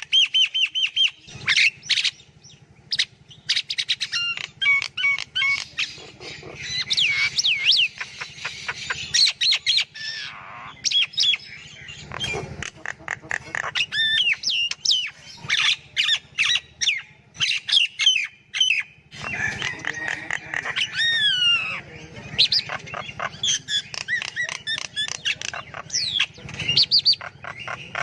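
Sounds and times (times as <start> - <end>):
myna calling: 0.0 - 28.0.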